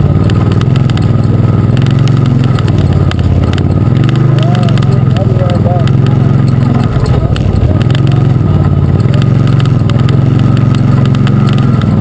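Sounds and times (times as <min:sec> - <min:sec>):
sharp knocks and rattles: 0:00.0 - 0:12.0
utility vehicle engine running: 0:00.0 - 0:12.0.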